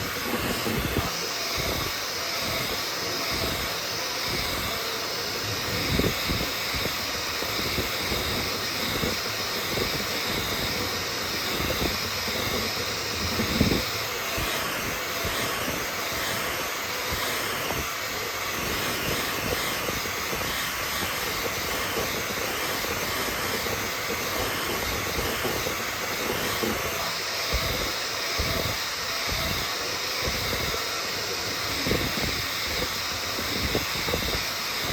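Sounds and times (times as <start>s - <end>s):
cooling fans whirring: 0.0s - 34.9s
high motor whine: 0.0s - 34.9s.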